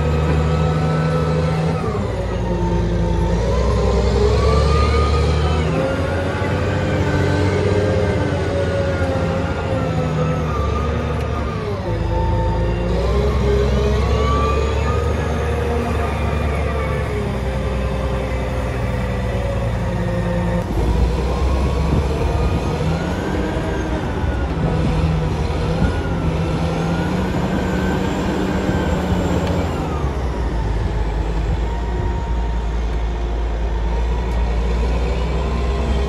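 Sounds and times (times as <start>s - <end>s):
diesel engine revving under load: 0.0s - 36.0s.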